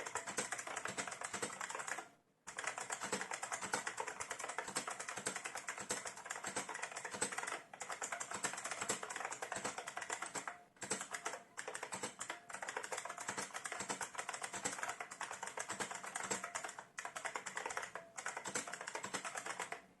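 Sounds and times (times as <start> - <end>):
keyboard typing: 0.0 - 20.0.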